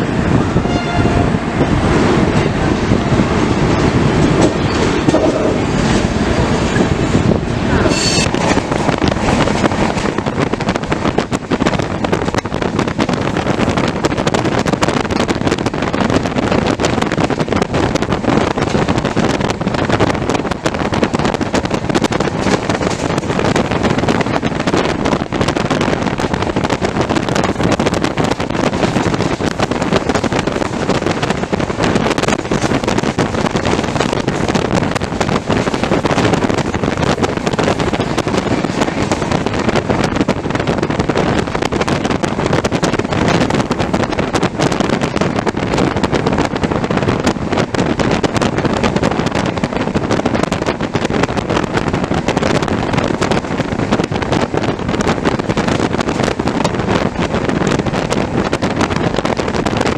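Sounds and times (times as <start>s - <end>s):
train wheels rushing: 0.0s - 59.9s
wind buffeting microphone: 0.0s - 59.9s.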